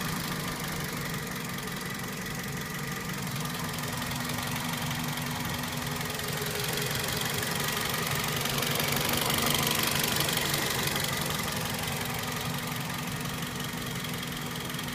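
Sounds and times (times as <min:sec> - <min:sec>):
car engine idling: 0:00.0 - 0:14.9
rapid engine ticking: 0:00.0 - 0:14.9.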